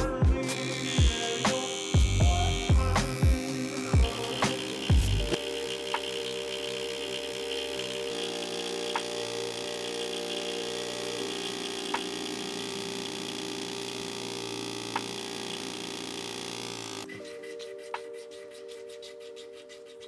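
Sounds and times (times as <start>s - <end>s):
ambient chords: 0.0s - 17.6s.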